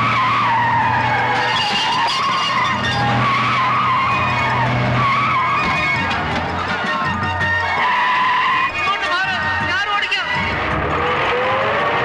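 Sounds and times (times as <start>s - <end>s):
car tyres squealing: 0.0s - 12.0s
engine drone: 0.0s - 12.0s.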